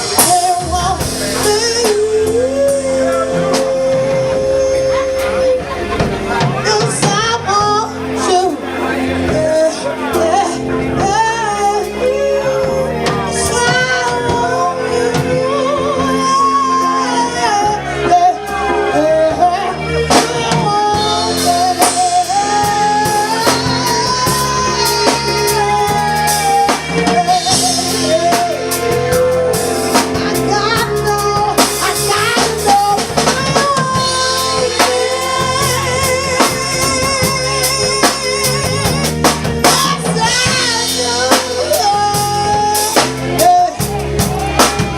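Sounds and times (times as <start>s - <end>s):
band playing: 0.0s - 44.9s
person singing: 0.0s - 44.9s.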